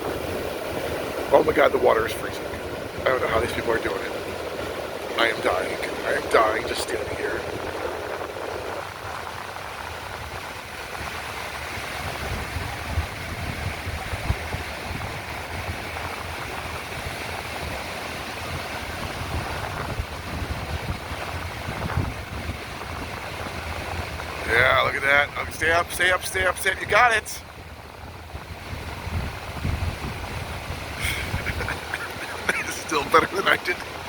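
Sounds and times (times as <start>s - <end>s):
ocean surf: 0.0s - 34.0s
wind buffeting microphone: 0.0s - 34.0s.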